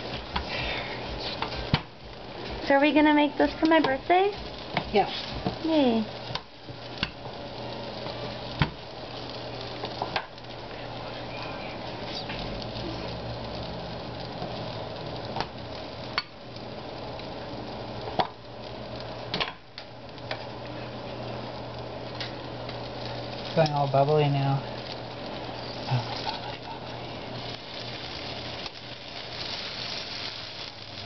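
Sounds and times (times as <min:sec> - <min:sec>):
flatbread sizzling in a frying pan: 0:00.0 - 0:31.0.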